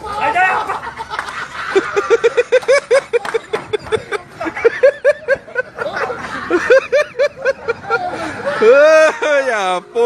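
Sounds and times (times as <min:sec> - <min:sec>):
person laughing hard: 0:00.7 - 0:09.6.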